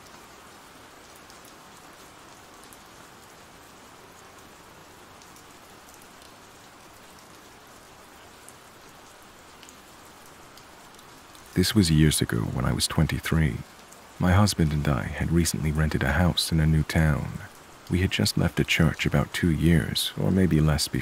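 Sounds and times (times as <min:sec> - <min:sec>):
steady rain falling: 0:00.0 - 0:21.0
ticks of single raindrops: 0:00.0 - 0:21.0.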